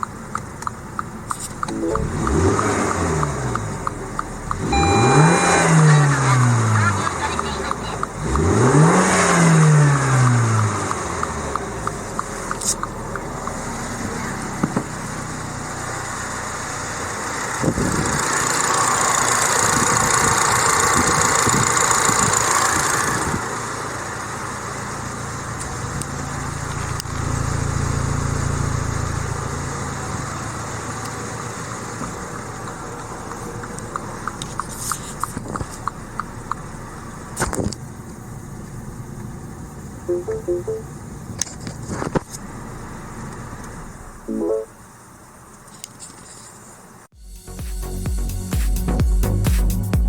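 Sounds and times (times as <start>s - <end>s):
car engine idling: 0.0s - 47.1s.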